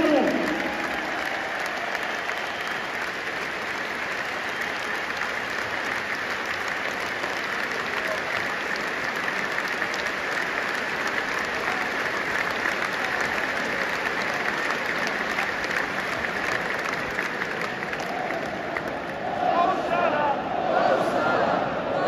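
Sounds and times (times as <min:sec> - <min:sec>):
stadium crowd applauding: 0:00.0 - 0:21.6.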